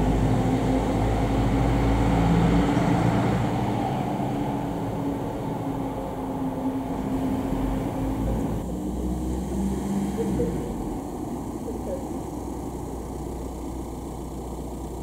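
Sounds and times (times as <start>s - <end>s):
diesel truck engine pulling away: 0.0s - 15.0s.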